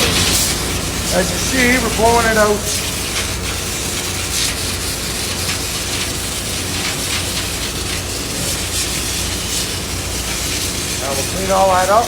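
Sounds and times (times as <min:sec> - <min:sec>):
engine room machinery drone: 0:00.0 - 0:12.0.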